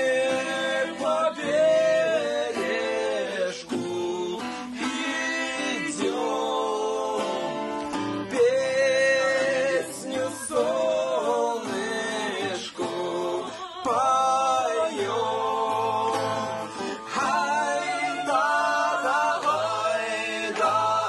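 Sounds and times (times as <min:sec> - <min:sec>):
acoustic guitar: 0:00.0 - 0:21.0
man singing: 0:00.0 - 0:21.0.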